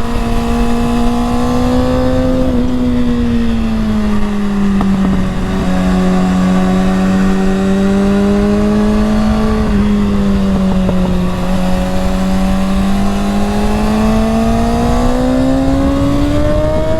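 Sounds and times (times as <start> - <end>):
motorcycle engine at speed: 0.0 - 16.9
wind rush: 0.0 - 16.9.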